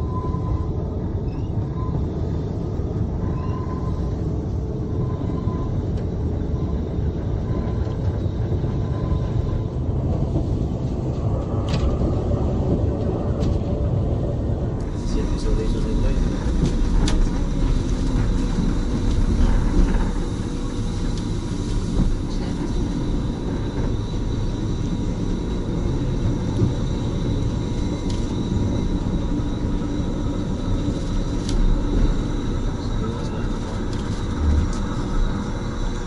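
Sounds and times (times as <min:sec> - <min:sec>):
railway carriage rumble: 0:00.0 - 0:36.0.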